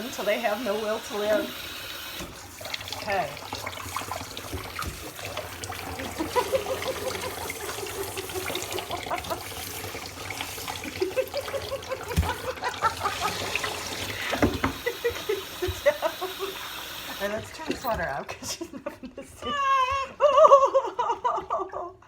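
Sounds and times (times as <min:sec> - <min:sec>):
tap water running into sink: 0:00.0 - 0:18.3.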